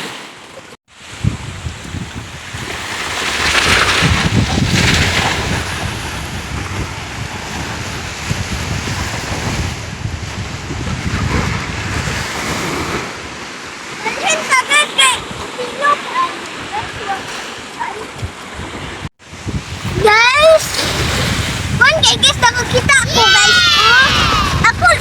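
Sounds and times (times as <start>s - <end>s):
sea waves washing onto shore: 0.0s - 25.0s
wind buffeting microphone: 0.9s - 25.0s.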